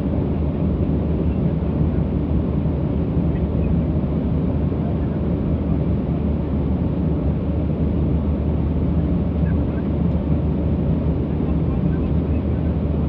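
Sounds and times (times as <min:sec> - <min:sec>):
jet engine drone in cabin: 0:00.0 - 0:13.0.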